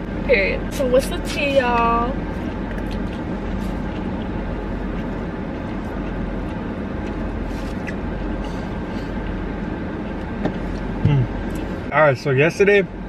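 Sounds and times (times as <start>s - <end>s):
car engine idling low rumble: 0.0s - 13.0s.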